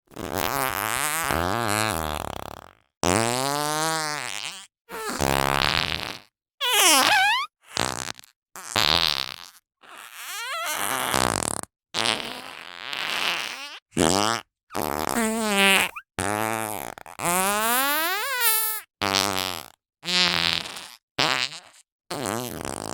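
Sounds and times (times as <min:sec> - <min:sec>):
cartoon fart sound effects: 0:00.1 - 0:22.9.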